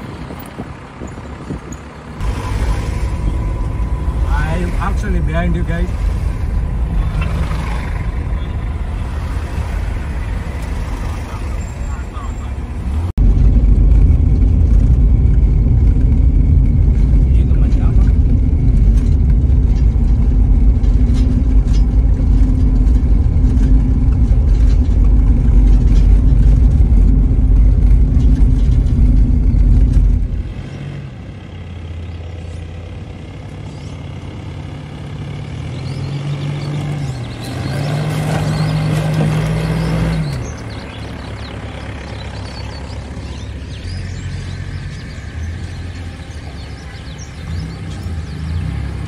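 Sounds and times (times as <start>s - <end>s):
road and engine rumble inside vehicle: 0.0s - 49.0s
engine revving through mud: 2.2s - 31.6s, 33.7s - 49.0s.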